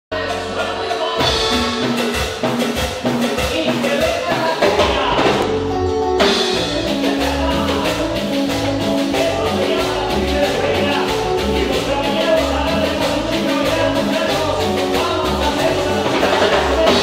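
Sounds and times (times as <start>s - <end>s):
upbeat music with drum beat: 0.1s - 5.6s, 6.2s - 17.0s.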